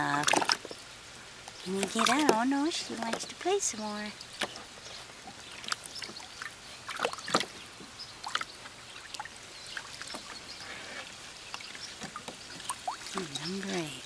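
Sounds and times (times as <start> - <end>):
water splashing in wading pool: 0.0 - 14.0.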